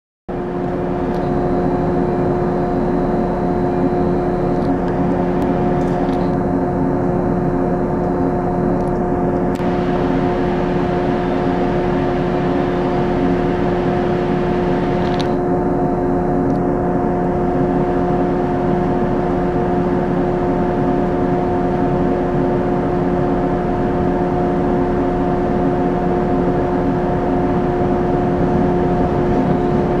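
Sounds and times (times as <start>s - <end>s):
steady hum of held tones: 0.3s - 30.0s.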